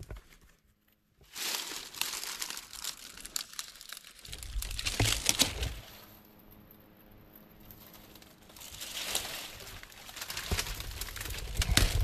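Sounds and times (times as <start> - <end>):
leaves and brush rustling: 1.2 - 12.0.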